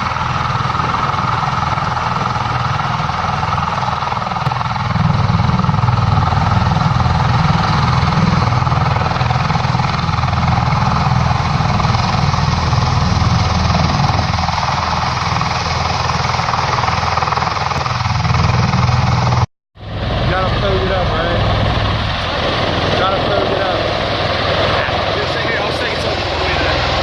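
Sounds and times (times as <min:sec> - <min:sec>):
tiltrotor aircraft rotor and engine: 0:00.0 - 0:27.0.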